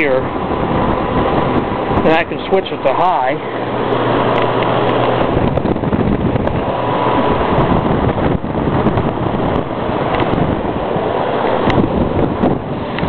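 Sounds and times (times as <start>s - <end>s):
table fan blowing air: 0.0s - 13.0s.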